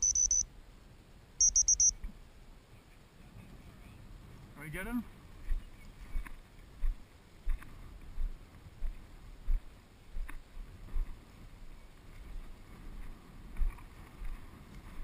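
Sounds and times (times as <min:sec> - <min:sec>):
grass and brush rustling: 0:00.0 - 0:15.0.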